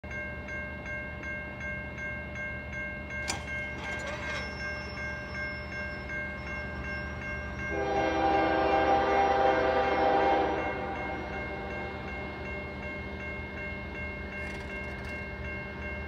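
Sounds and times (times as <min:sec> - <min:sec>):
level-crossing warning bell ringing: 0:00.0 - 0:16.0.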